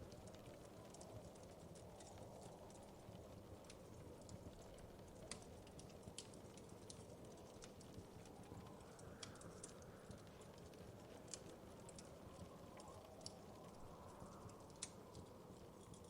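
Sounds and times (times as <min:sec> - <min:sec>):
fireplace fire crackling: 0:00.0 - 0:16.0
low rumble of flames: 0:00.0 - 0:16.0.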